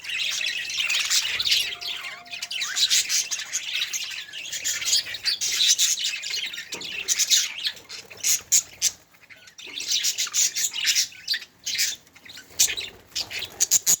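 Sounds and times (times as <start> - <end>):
budgerigars chirping: 0.0 - 14.0.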